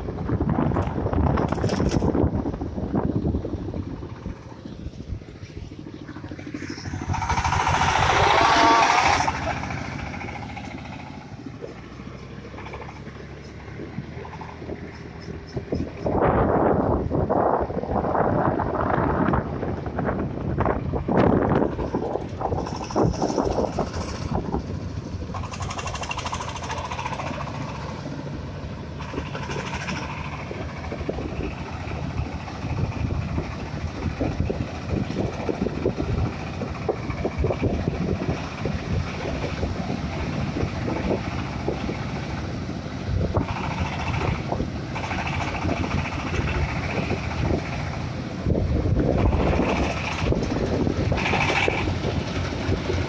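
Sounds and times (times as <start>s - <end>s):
machine engine running: 0.0s - 16.1s, 19.3s - 53.0s.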